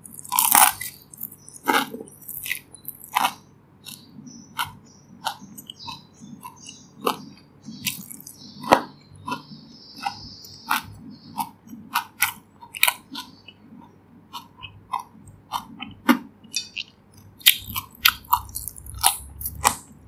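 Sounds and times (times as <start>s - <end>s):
person chewing crispy dumplings: 0.0s - 20.0s.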